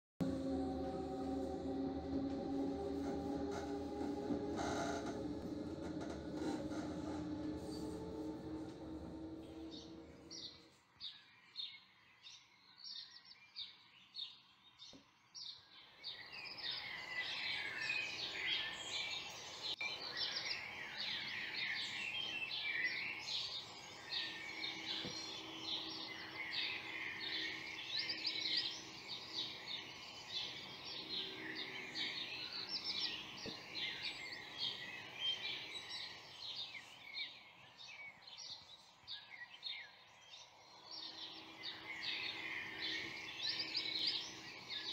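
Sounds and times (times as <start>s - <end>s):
birds chirping and singing: 0.2s - 44.9s.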